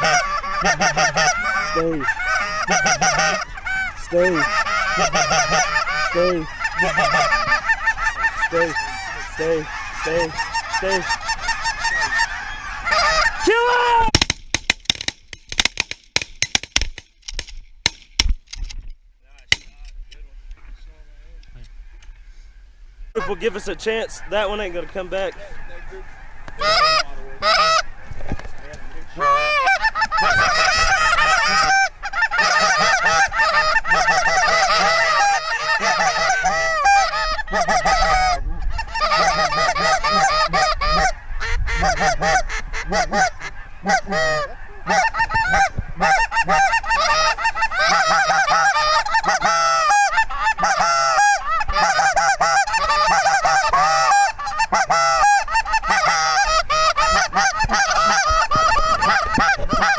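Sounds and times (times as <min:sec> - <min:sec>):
geese honking: 0:00.0 - 0:14.1, 0:23.2 - 0:59.9.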